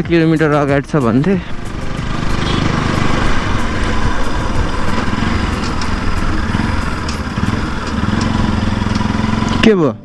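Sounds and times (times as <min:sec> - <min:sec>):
motorcycle engine running: 0:00.0 - 0:09.9
wind and road noise: 0:00.0 - 0:10.0.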